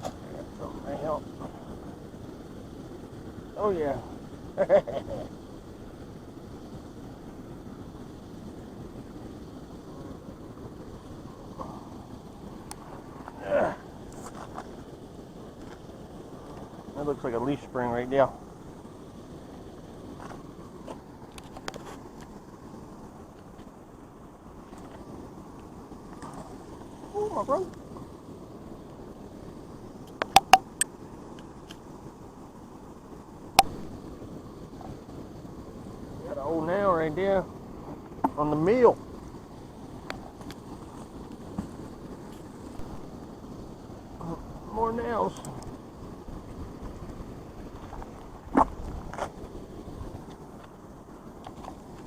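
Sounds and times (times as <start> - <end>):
water rushing over waterfall: 0.0 - 52.0.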